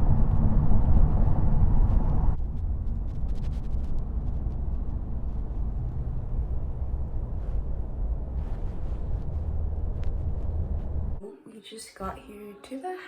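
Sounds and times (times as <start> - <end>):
car road and engine rumble: 0.0 - 11.2.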